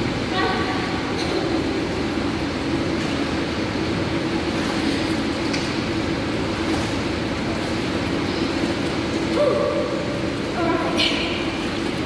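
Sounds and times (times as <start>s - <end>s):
air handling hum: 0.0s - 12.0s.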